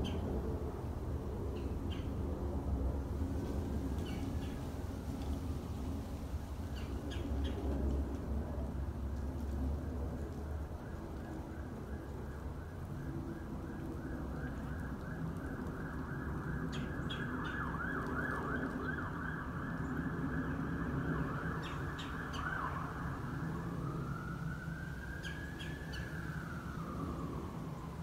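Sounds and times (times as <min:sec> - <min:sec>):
police siren: 0:03.4 - 0:28.0.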